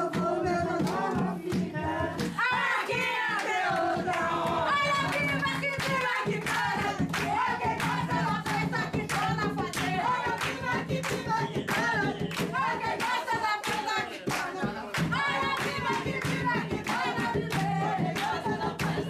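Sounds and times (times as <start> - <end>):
group singing: 0.0 - 19.0
hand claps: 0.0 - 19.0.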